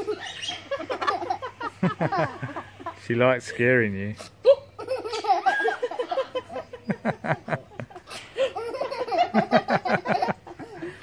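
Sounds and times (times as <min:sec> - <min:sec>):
woman laughing heartily: 0:00.0 - 0:03.0, 0:04.4 - 0:11.0.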